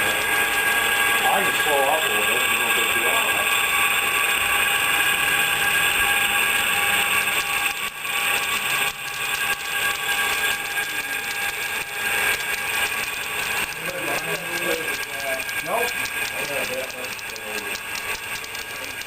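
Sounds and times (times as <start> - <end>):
model trains whining on track: 0.0 - 19.0.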